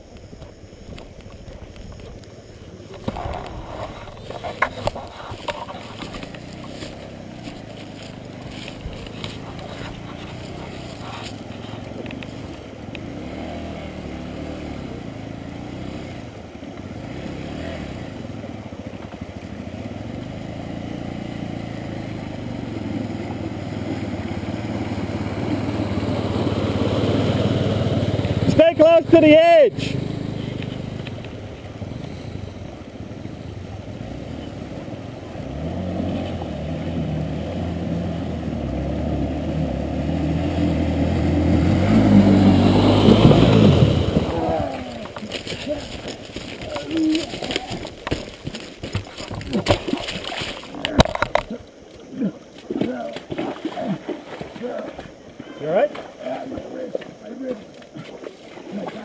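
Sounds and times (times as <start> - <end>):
motorcycle engine running: 0.0 - 57.4.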